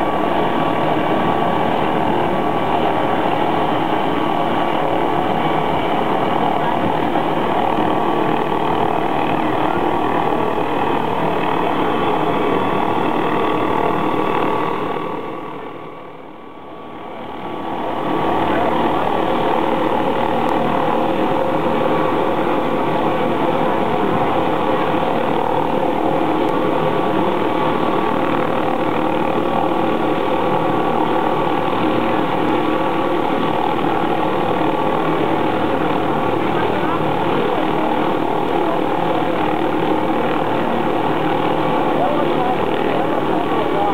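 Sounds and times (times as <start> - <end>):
helicopter turbine whine: 0.0 - 43.9.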